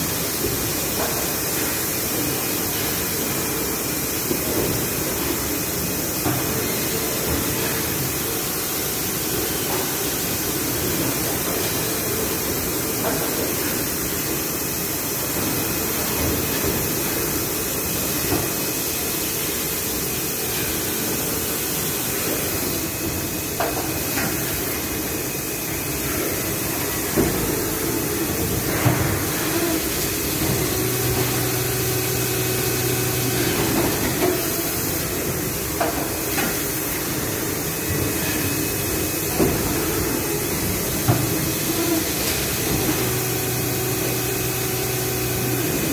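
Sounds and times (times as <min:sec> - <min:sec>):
machine hum and hiss: 0:00.0 - 0:45.9.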